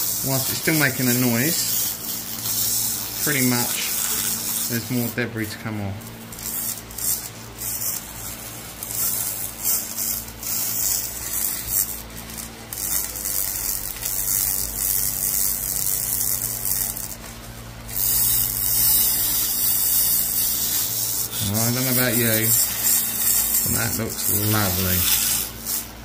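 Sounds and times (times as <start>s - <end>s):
laser cleaner hissing: 0.0s - 26.0s
steady machine hum: 0.0s - 26.0s.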